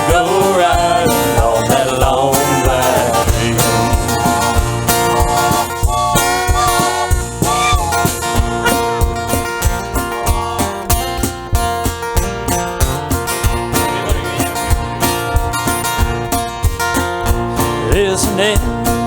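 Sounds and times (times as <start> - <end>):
live band playing country-gospel: 0.0 - 19.0.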